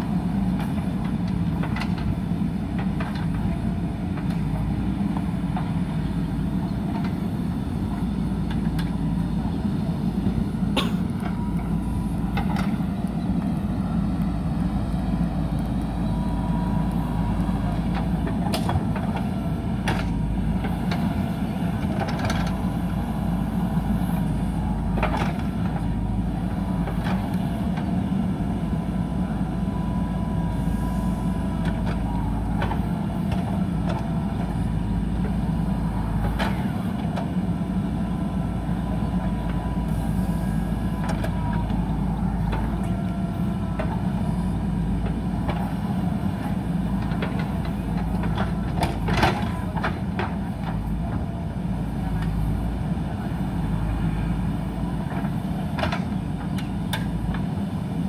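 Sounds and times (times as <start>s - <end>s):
backhoe dragging soil: 0.0s - 58.0s
diesel engine under load: 0.0s - 58.0s.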